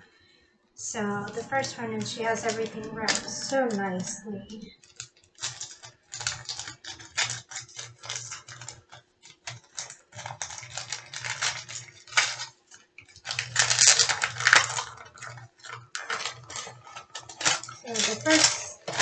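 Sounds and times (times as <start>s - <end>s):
gift wrapping crinkling and tearing: 1.0s - 19.0s.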